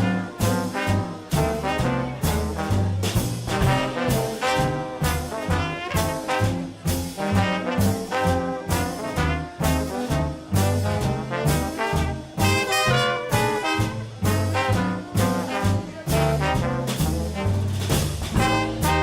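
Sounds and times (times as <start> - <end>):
low bass notes: 0.0 - 19.0
swing band playing: 0.0 - 19.0
trombone: 0.0 - 19.0
trumpet: 0.0 - 19.0.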